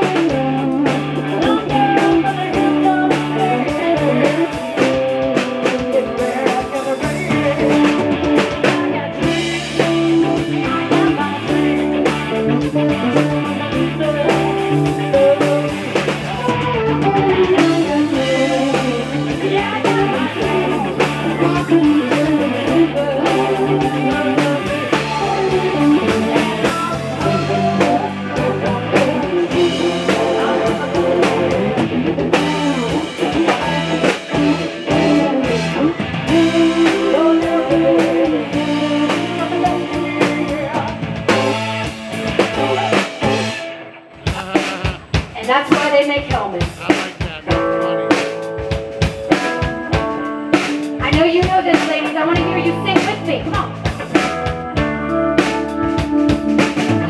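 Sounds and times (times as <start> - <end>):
blues-rock band music: 0.0 - 57.0.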